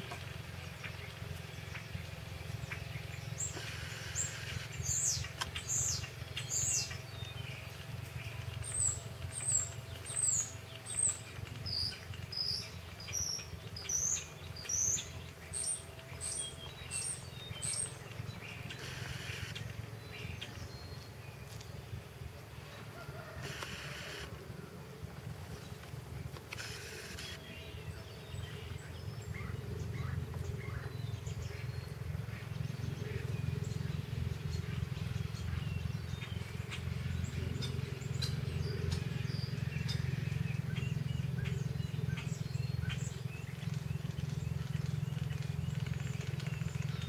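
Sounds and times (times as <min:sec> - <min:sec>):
songbird chirping: 0:00.0 - 0:24.4, 0:25.0 - 0:47.0
steady low hum: 0:00.0 - 0:47.0.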